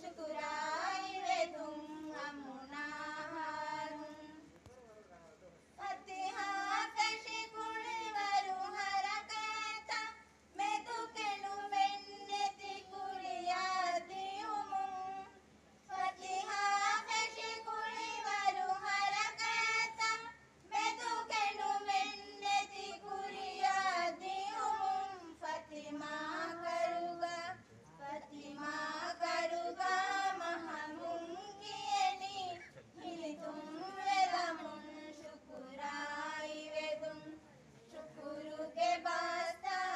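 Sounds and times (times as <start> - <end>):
women singing unaccompanied: 0.0 - 4.5, 5.8 - 39.9.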